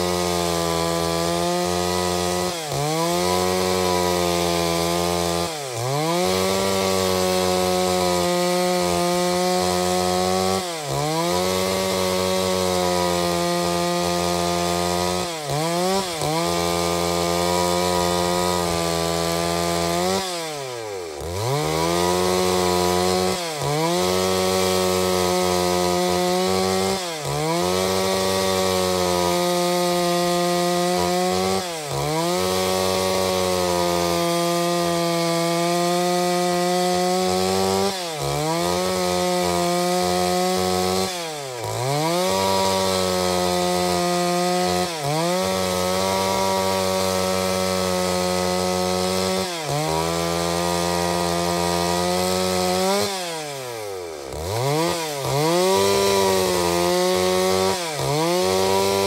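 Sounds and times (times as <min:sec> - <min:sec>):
chainsaw cutting through log: 0:00.0 - 0:59.0.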